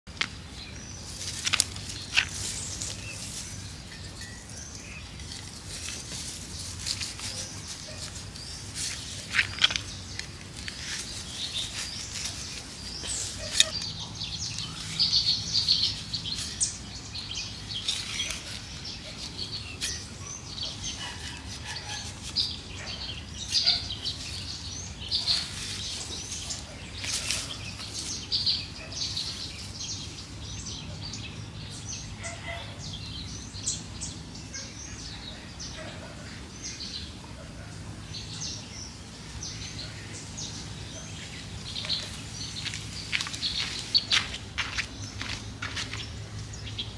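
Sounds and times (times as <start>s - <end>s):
small birds chirping: 0.1s - 46.9s.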